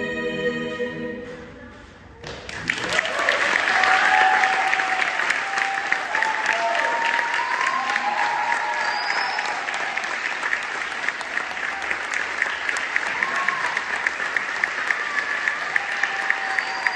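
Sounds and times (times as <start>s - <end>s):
audience applauding: 2.3s - 16.9s
close hands clapping steadily: 2.3s - 16.9s.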